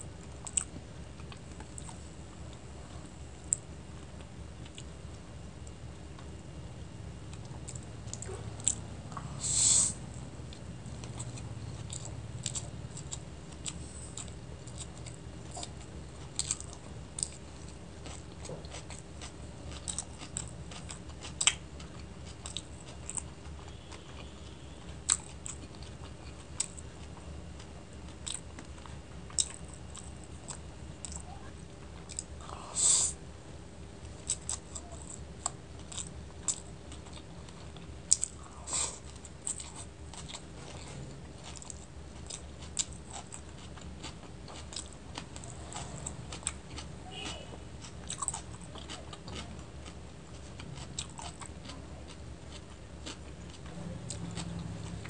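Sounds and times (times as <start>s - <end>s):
chewing noodles: 0.0s - 6.5s, 7.3s - 33.1s, 33.8s - 55.0s.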